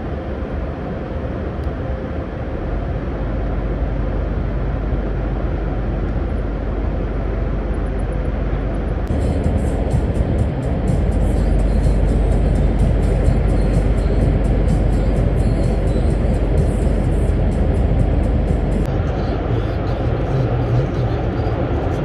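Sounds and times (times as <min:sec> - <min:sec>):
lorry engine and road noise: 0:00.0 - 0:22.0.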